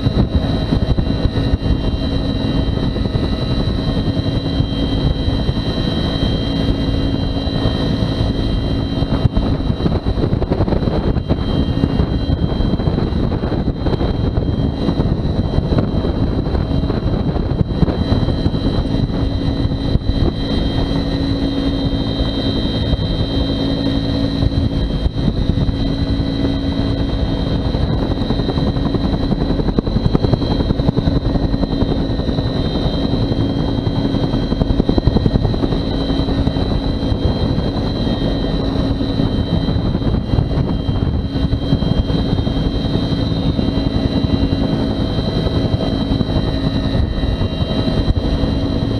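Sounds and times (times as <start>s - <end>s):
helicopter rotor chop: 0.0s - 48.9s
turbine whine: 0.0s - 48.9s.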